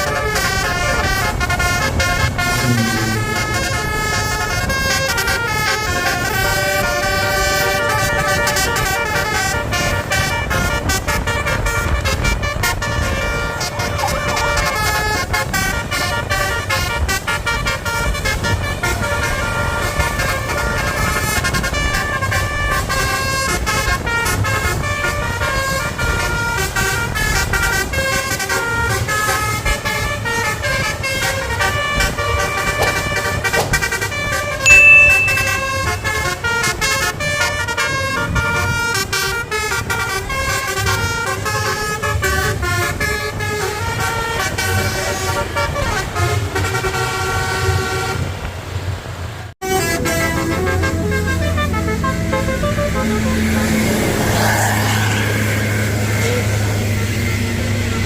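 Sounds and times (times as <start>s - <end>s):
melodic bus horn: 0.0s - 48.4s, 49.6s - 58.0s
bus engine and road noise: 0.0s - 58.0s.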